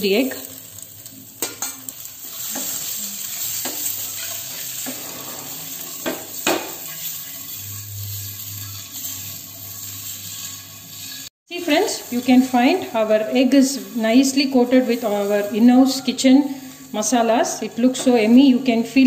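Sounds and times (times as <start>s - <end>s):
eggs sizzling in oil: 0.0s - 19.0s.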